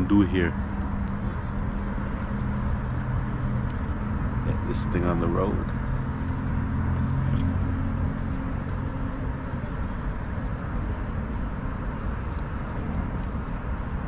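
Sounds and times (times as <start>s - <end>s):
car engine hum: 0.0s - 14.0s
road noise: 0.0s - 14.0s.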